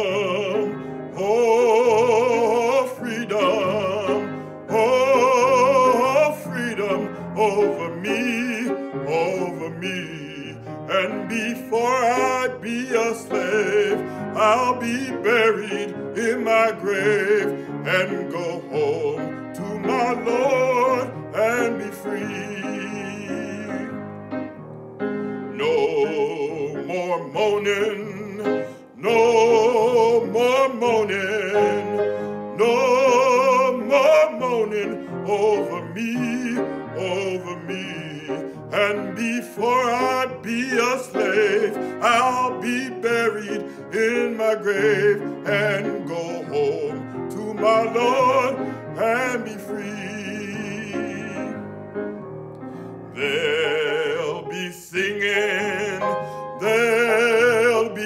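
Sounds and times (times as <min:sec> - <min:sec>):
man singing with vibrato: 0:00.0 - 0:24.5, 0:25.1 - 0:51.8, 0:53.0 - 0:58.0.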